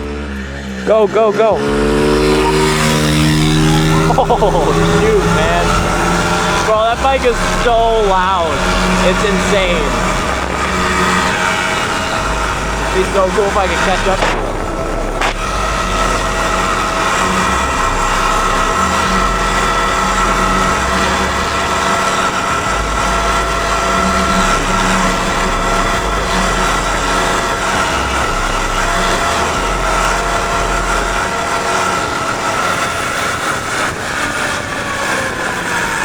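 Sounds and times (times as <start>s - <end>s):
dirt bike engine at high revs: 0.0s - 36.0s
wind rumbling on microphone: 1.6s - 36.0s.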